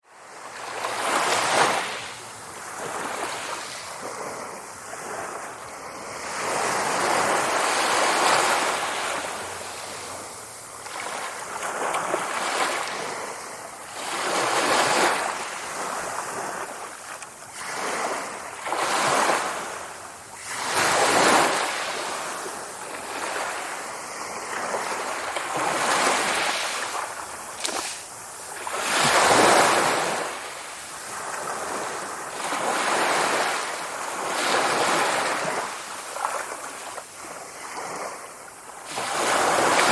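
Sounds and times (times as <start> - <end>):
sea waves breaking on shore: 0.1 - 39.9.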